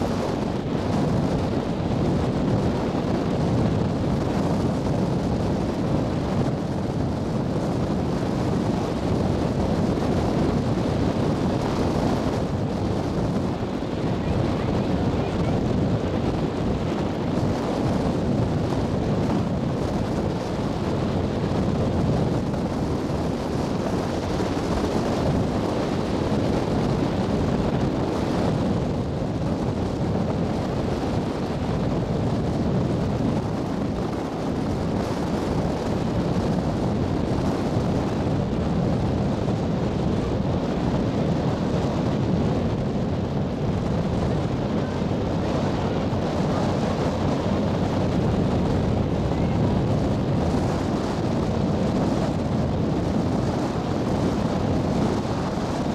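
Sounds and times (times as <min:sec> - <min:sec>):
ferry engine rumble: 0:00.0 - 0:55.9
wind buffeting microphone: 0:00.0 - 0:55.9.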